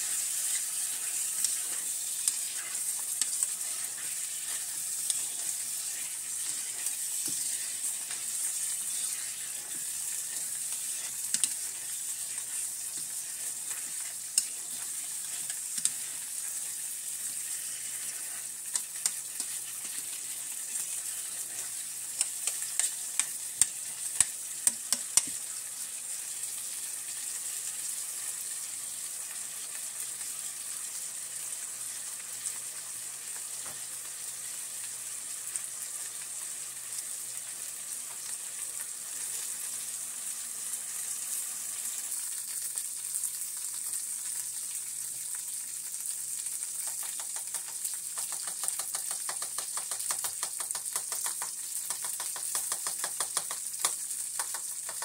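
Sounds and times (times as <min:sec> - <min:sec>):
vegetables sizzling in a pot: 0:00.0 - 0:55.0.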